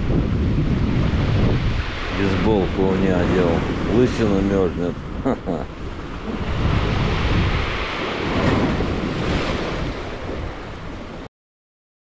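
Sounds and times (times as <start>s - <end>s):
waves splashing over rocks: 0.0s - 11.3s
wind buffeting microphone: 0.0s - 11.3s.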